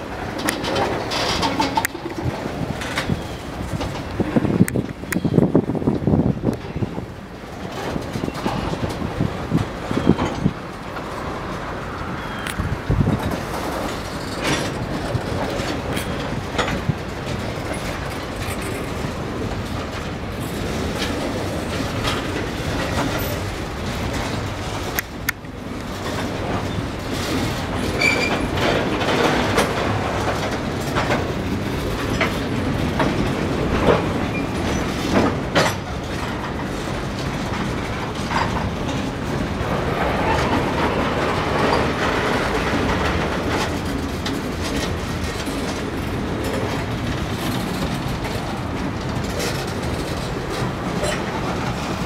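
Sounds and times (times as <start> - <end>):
freight wheels rumbling and clicking: 0.0 - 52.0.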